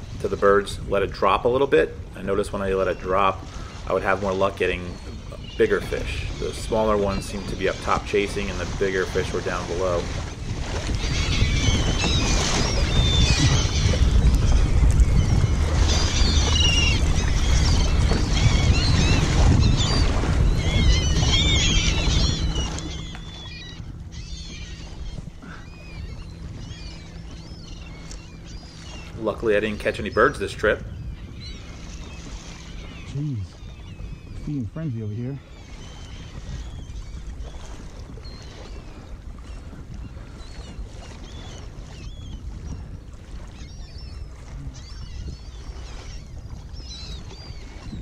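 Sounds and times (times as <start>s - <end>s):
birds calling: 0.0s - 48.0s
low wind rumble: 0.0s - 48.0s
seabirds crying: 0.0s - 48.0s
water splashing on kayak hull: 0.8s - 34.5s, 35.4s - 48.0s.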